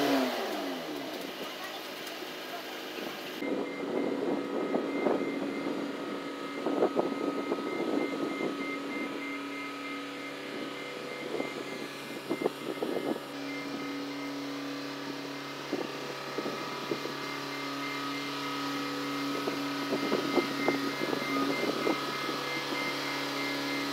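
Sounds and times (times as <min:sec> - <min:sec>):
engine running steadily: 0:00.0 - 0:23.9.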